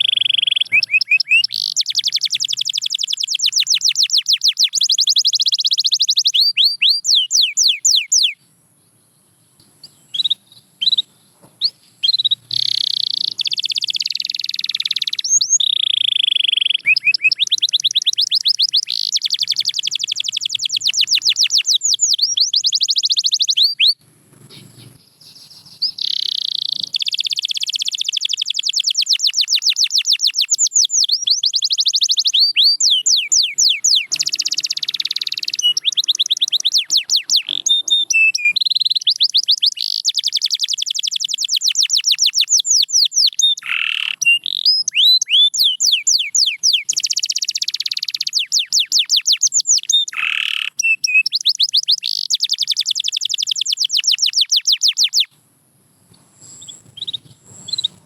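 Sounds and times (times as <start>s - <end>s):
canary singing in trills: 0.0s - 55.3s, 56.1s - 58.0s.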